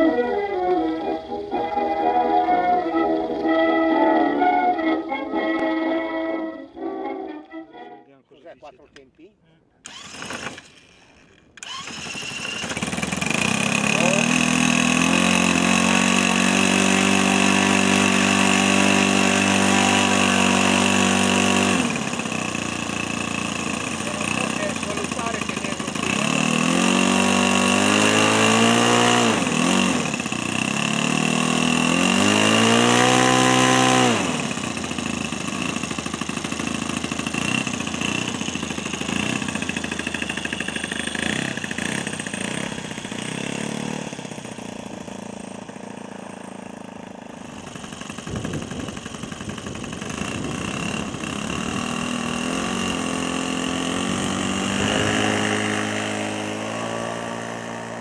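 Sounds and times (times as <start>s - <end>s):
model airplane engine: 9.8s - 58.0s.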